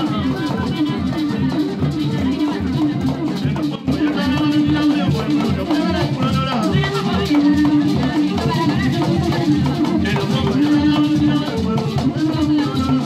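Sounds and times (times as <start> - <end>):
drums beating: 0.0 - 13.0
group singing: 0.0 - 13.0
shaker rattles: 0.0 - 13.0.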